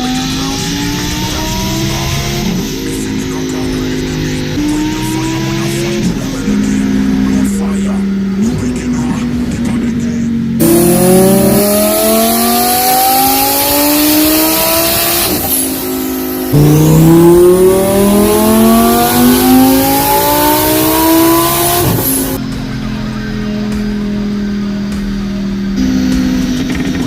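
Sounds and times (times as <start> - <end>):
car engine revving hard: 0.0 - 27.0.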